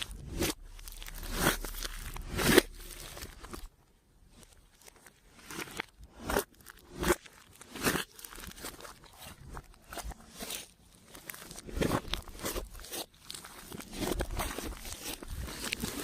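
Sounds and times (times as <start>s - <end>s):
slime squelching and popping: 0.0s - 16.0s.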